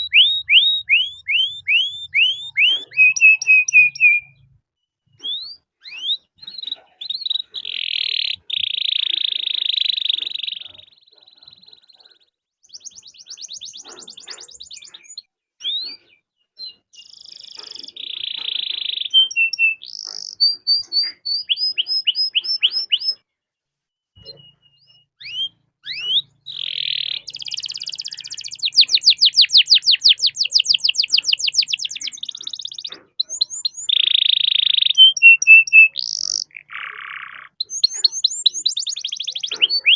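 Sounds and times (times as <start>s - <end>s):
canary singing: 0.0s - 23.2s, 24.2s - 39.9s.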